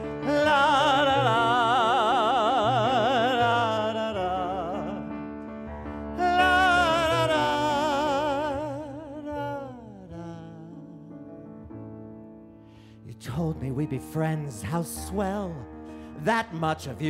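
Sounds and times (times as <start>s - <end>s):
man singing operatic vocalise: 0.0s - 5.3s, 6.0s - 11.1s, 13.0s - 17.0s
piano accompaniment: 0.0s - 17.0s.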